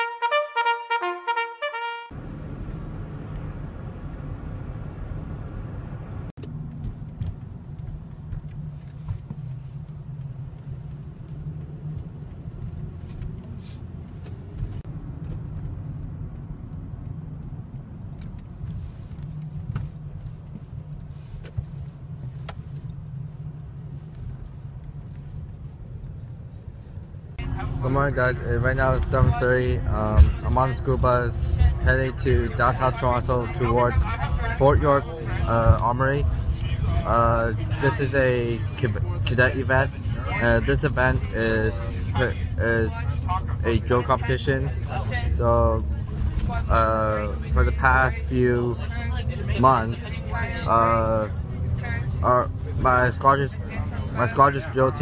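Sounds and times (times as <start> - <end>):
car engine and road rumble: 1.0 - 55.0.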